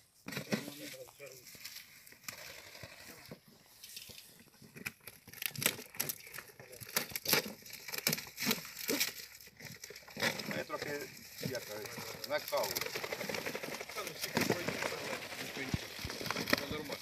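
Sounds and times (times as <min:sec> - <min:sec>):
sharp crackles and knocks: 0:00.2 - 0:17.0.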